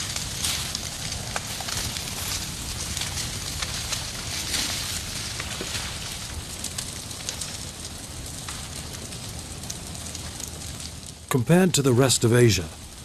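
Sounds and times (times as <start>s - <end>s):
fire crackles and pops: 0.0s - 13.0s
fire rushing noise: 0.0s - 13.0s.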